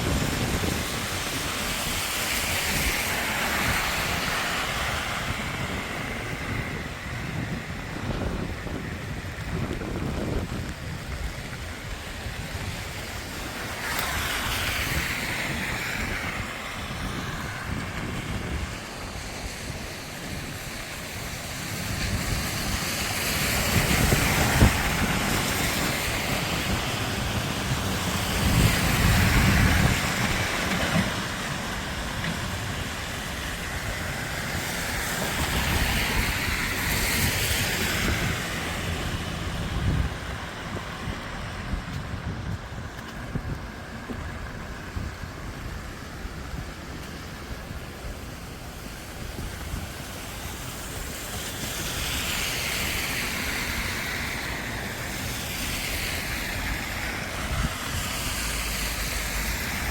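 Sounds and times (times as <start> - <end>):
cars passing on wet road: 0.0 - 59.9
rain: 0.0 - 59.9.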